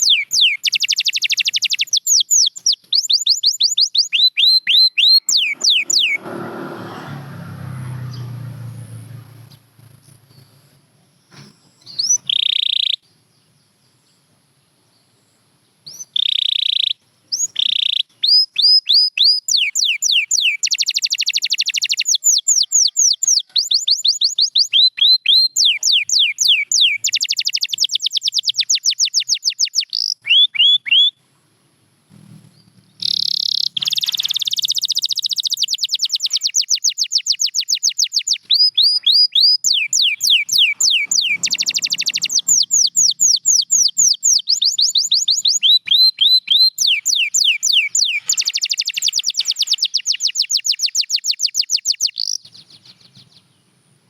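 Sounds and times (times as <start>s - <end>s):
canary singing trills: 0.0s - 6.3s, 11.3s - 13.8s, 15.8s - 31.2s, 32.1s - 53.8s.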